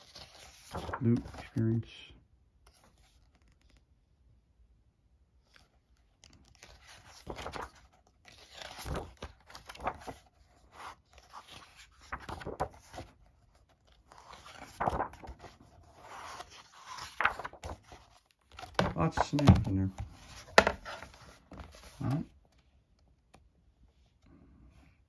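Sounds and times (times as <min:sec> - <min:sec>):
book pages turning: 0:00.0 - 0:01.8, 0:02.6 - 0:04.0, 0:05.4 - 0:24.3.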